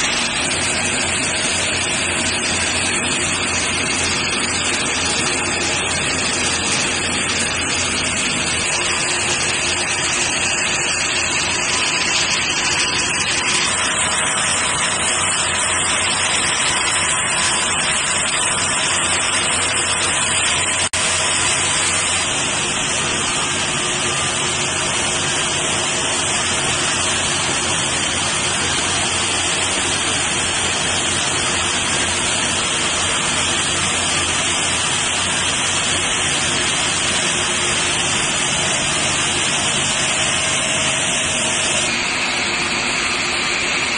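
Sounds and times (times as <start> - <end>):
wire drawing machine hissing: 0.0 - 43.9.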